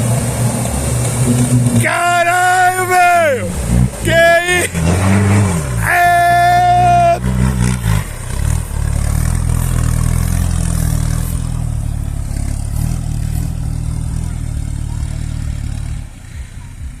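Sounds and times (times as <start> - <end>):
engine running and revving: 0.0 - 2.0, 3.0 - 17.0.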